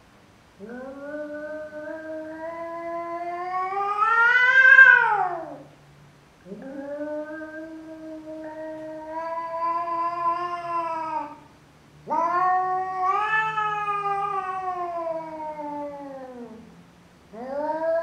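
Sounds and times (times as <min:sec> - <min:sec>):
cat yowling: 0:00.6 - 0:05.7, 0:06.5 - 0:11.4, 0:12.0 - 0:16.7, 0:17.3 - 0:18.0.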